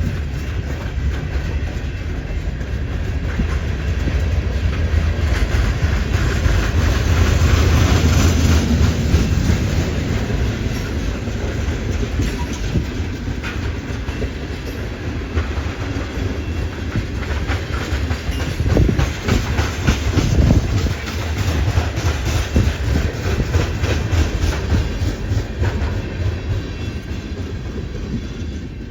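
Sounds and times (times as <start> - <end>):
freight train rolling slowly: 0.0 - 28.9
wheels clicking over rail joints: 0.0 - 28.9.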